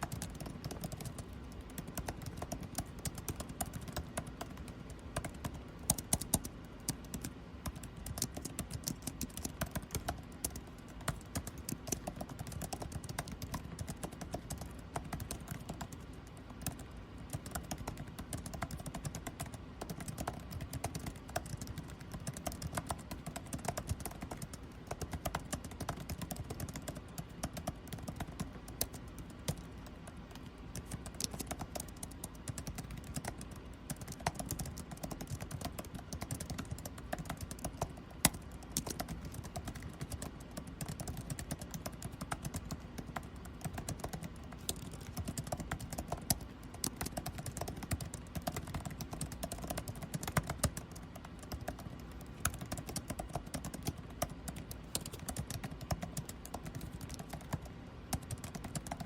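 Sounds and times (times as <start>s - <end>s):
air conditioning hum: 0.0s - 59.0s
keyboard typing: 0.0s - 59.0s.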